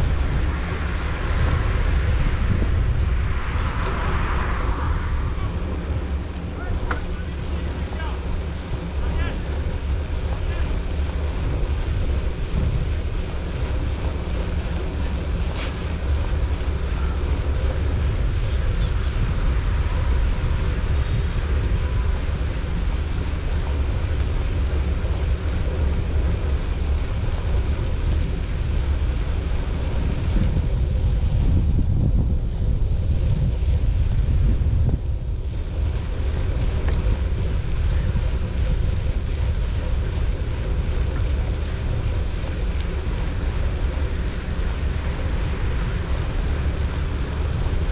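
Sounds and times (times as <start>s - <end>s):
wind rush on microphone: 0.0s - 47.9s.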